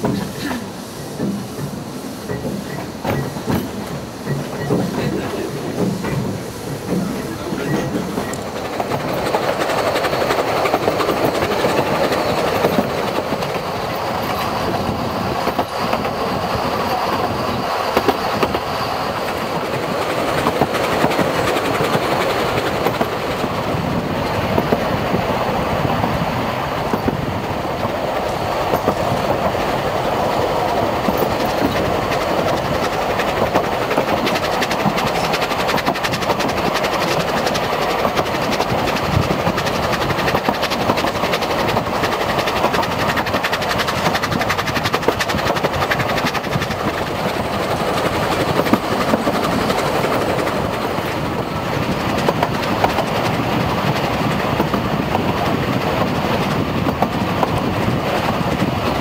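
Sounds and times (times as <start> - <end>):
train rumble: 0.0 - 59.0
train wheels clattering over rail joints: 0.0 - 59.0.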